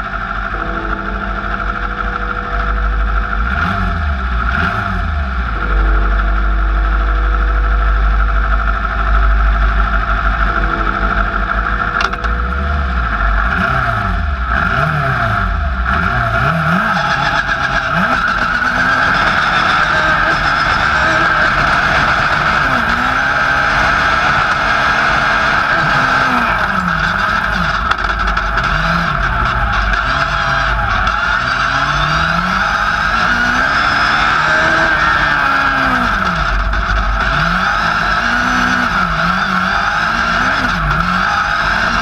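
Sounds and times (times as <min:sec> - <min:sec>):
buggy engine idling with throttle blips: 0:00.0 - 0:42.0.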